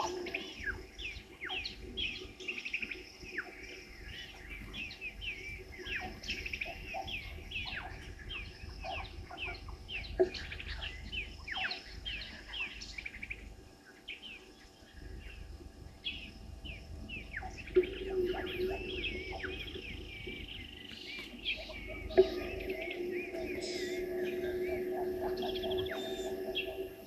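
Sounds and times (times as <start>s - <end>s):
birds chirping and singing: 0.0s - 27.0s
low steady bird call: 0.0s - 27.0s.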